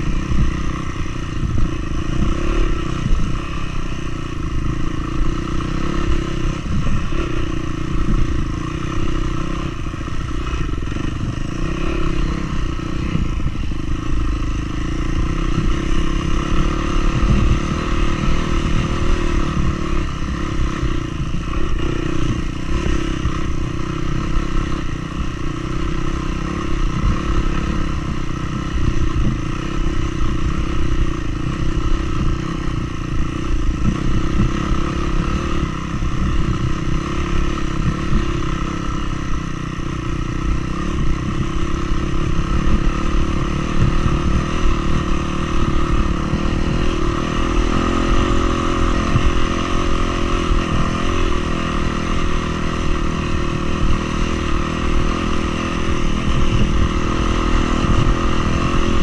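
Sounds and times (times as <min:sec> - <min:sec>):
engine running with rattling clatter: 0:00.0 - 0:59.0.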